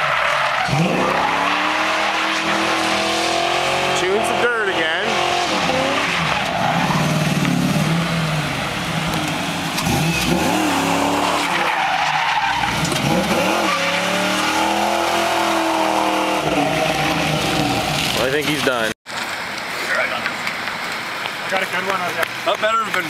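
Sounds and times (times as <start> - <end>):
car engine revving: 0.0 - 18.9
tyres squealing on asphalt: 0.0 - 18.9.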